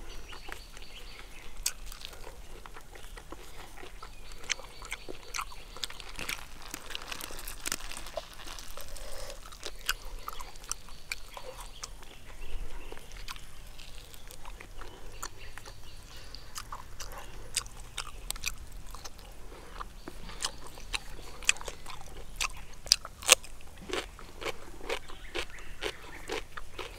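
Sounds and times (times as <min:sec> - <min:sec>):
crunchy chewing: 0:00.0 - 0:26.9.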